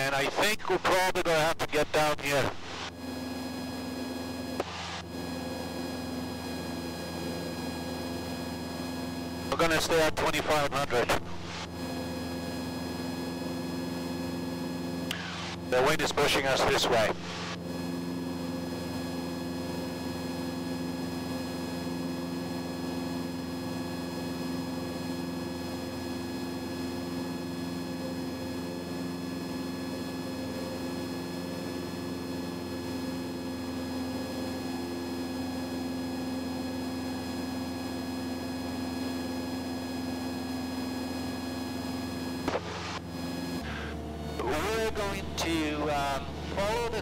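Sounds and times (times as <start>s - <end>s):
airplane engine drone in cabin: 0.0s - 47.0s.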